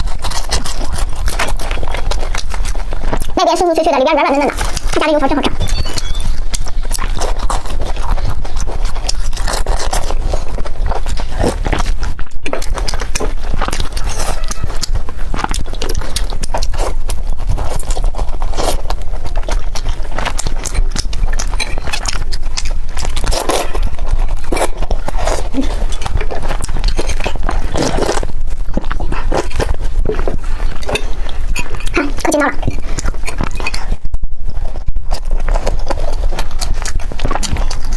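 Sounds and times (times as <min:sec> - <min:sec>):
crunching and chewing food: 0:00.0 - 0:37.9.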